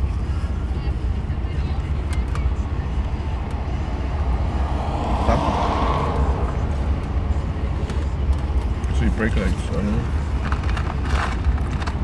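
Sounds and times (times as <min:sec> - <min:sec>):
vehicle rumble inside car: 0:00.0 - 0:12.0.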